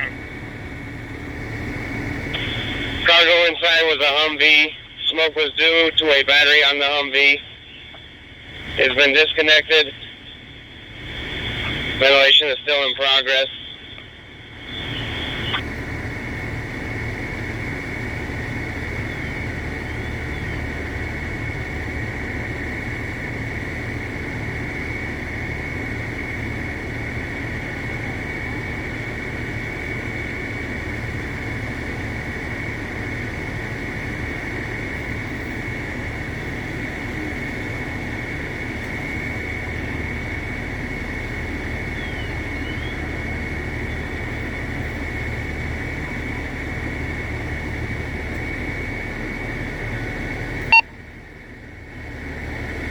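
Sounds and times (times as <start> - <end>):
high-pitched machine whine: 0.0 - 52.9
low engine drone: 0.0 - 52.9.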